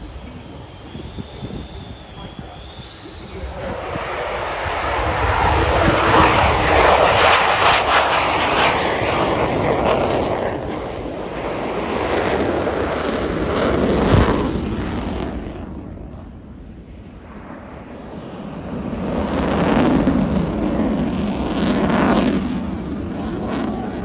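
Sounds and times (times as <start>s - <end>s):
fighter jet roar: 0.0s - 24.0s.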